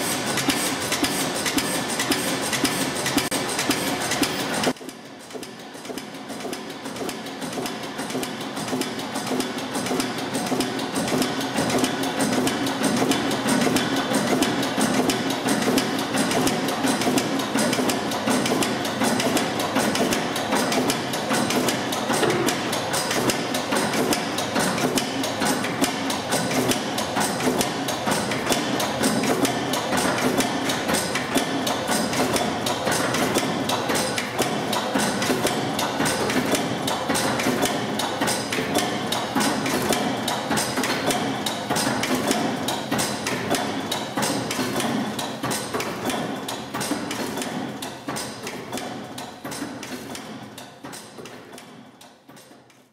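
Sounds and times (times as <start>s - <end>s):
stationary engine knocking: 0.0s - 50.7s.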